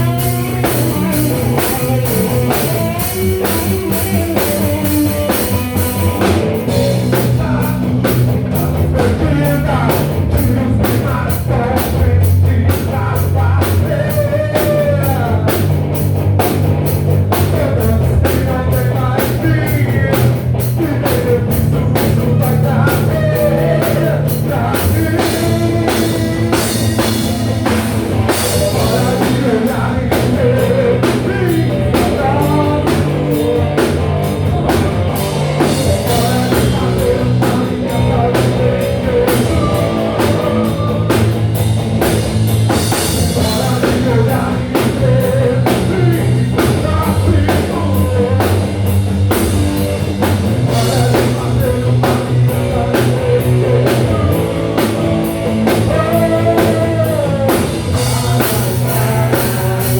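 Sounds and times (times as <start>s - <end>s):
person singing lead vocal: 0.0s - 16.0s, 17.3s - 49.1s, 50.2s - 59.9s
drum kit: 0.0s - 59.9s
electric bass: 0.0s - 59.9s
electric guitar: 0.0s - 59.9s
keyboards: 0.0s - 59.9s.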